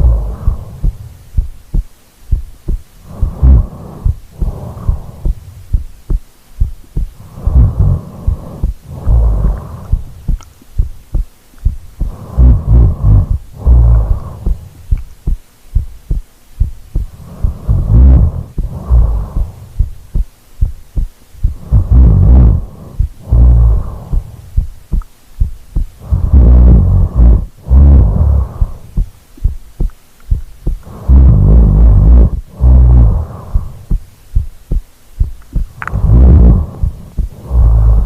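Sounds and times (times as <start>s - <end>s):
slow deep breathing: 0.0s - 29.1s, 30.6s - 38.0s
heartbeat thumps: 0.0s - 38.0s.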